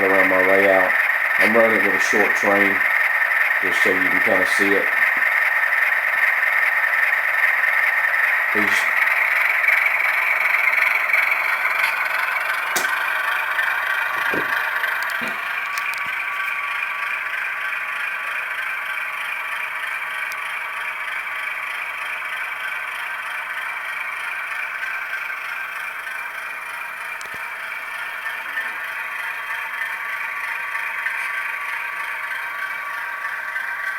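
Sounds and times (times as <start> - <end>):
diesel engine sound from small speaker: 0.0 - 33.9.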